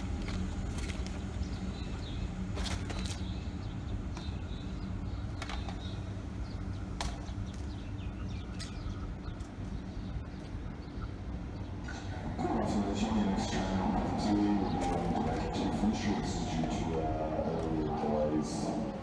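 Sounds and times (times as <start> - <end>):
electric train rumbling on tracks: 0.0 - 19.0.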